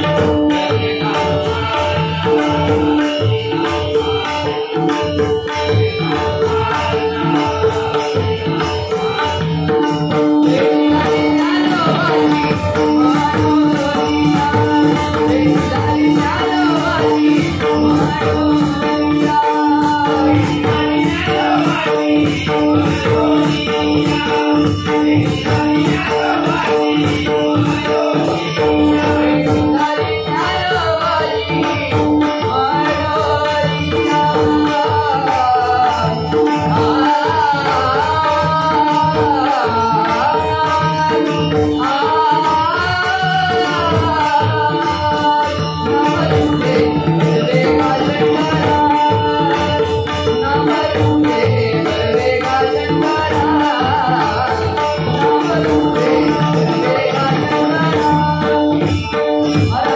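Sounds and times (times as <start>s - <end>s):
hand drums: 0.0s - 59.9s
man singing: 0.0s - 59.9s.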